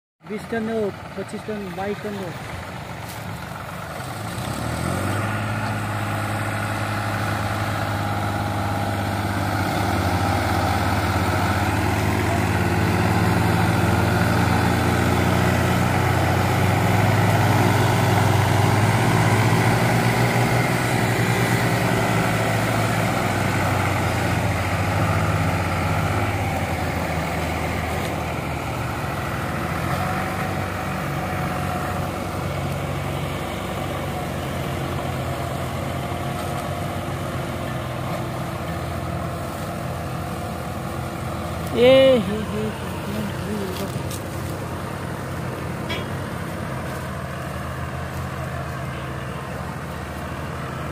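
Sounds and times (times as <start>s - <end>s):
tractor diesel engine drone: 0.2s - 50.9s.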